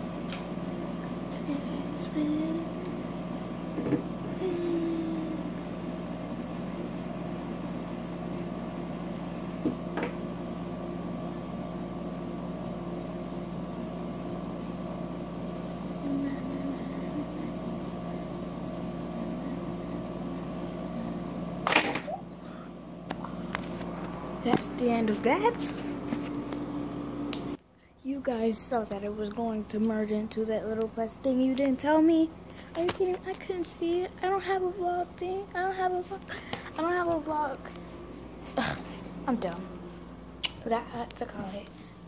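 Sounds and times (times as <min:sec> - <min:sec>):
fidget spinner spinning: 0:00.0 - 0:09.9, 0:11.6 - 0:22.2, 0:23.1 - 0:26.2, 0:28.2 - 0:42.0
steady low hum: 0:00.0 - 0:42.0.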